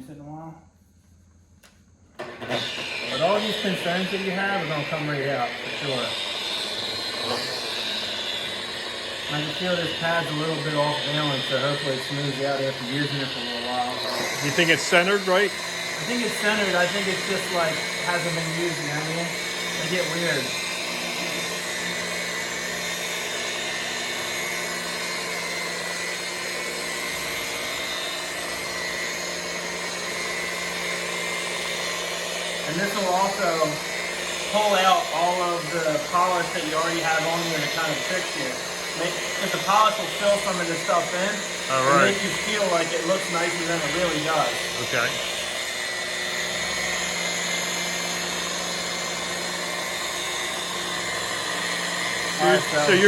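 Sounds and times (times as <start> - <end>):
rotary polisher running: 0.0 - 53.0.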